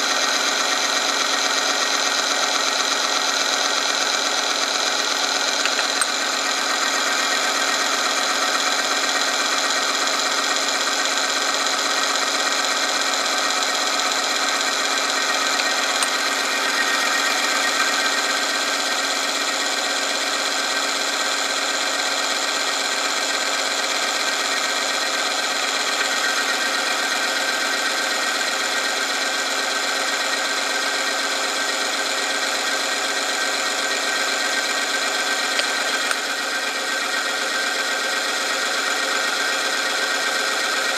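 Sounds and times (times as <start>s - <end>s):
machine motor whine with grinding: 0.0s - 40.9s.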